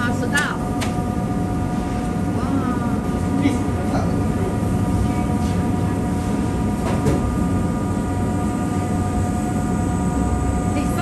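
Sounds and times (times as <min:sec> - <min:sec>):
electric fan roaring: 0:00.0 - 0:11.0.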